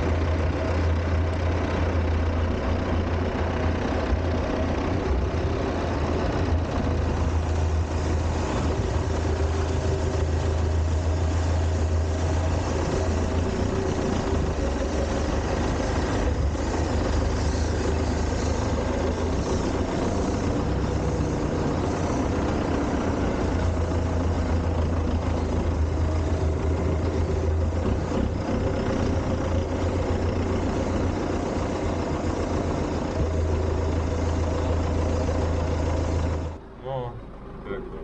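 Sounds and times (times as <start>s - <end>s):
tractor diesel engine droning: 0.0s - 38.0s.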